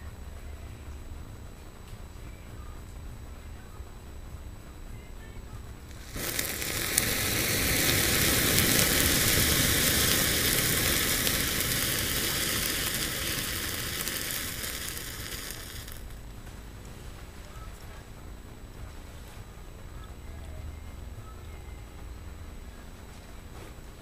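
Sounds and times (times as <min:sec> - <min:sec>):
igniter powder hissing and crackling: 0:00.0 - 0:24.0.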